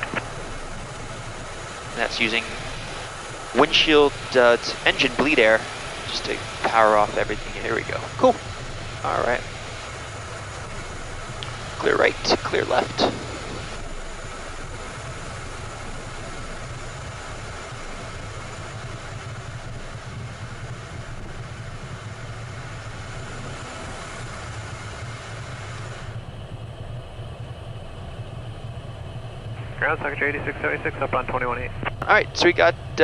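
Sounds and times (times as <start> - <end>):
jet engines hum and hiss: 0.0 - 33.0.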